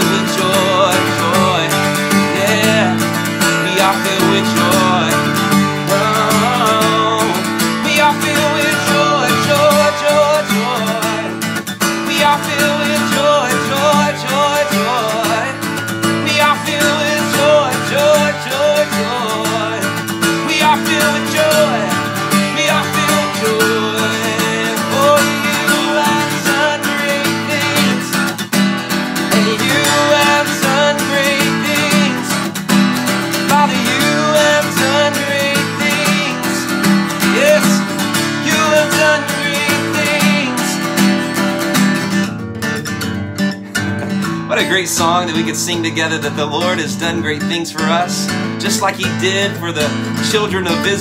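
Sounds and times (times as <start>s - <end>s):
acoustic guitar strumming chords: 0.0s - 51.0s.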